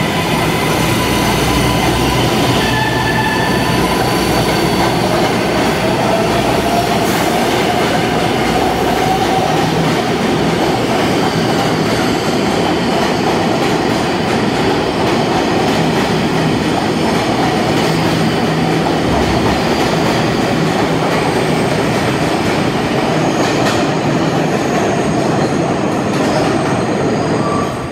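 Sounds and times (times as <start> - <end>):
subway train wheels on rails: 0.0 - 27.9.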